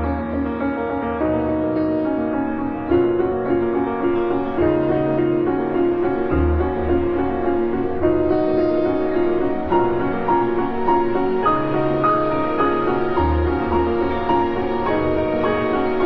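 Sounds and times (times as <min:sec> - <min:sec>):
piano background music: 0:00.0 - 0:16.0.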